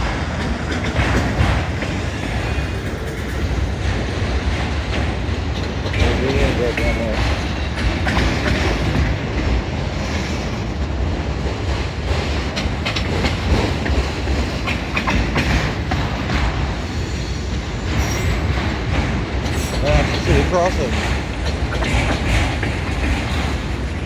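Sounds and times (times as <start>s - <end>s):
freight train cars rolling: 0.0s - 24.0s
wheels clicking on rails: 0.0s - 24.0s.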